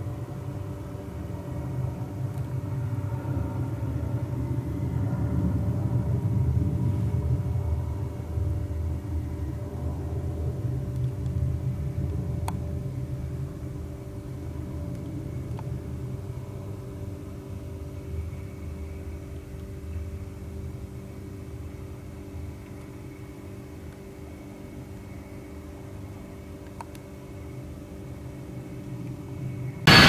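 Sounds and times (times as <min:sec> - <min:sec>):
jet engines at takeoff: 0:00.0 - 0:30.0.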